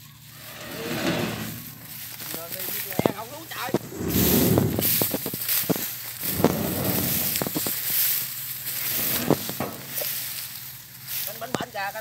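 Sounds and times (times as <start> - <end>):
combine harvester engine idling: 0.0 - 12.0
crackling rustling noise: 0.0 - 12.0.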